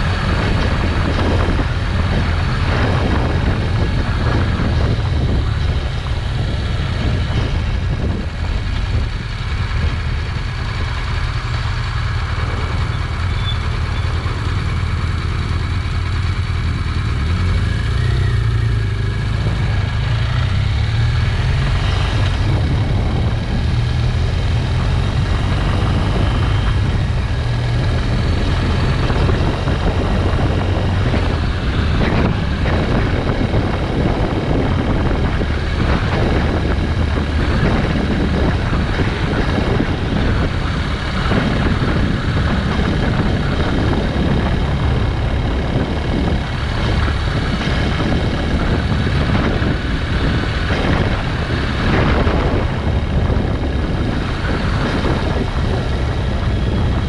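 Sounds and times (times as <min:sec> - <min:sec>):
motorcycle engine drone: 0:00.0 - 0:57.0
wind rush on microphone: 0:00.0 - 0:57.0.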